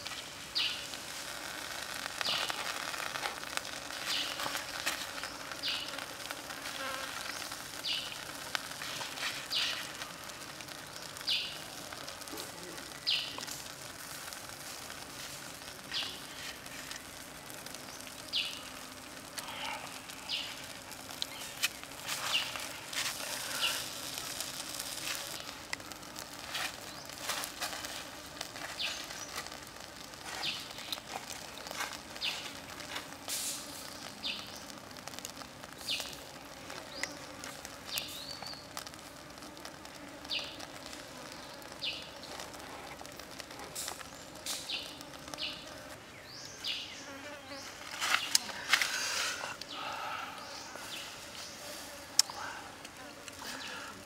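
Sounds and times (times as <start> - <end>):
crackles and pops: 0.0 - 54.0
squid grilling over charcoal: 0.0 - 54.0.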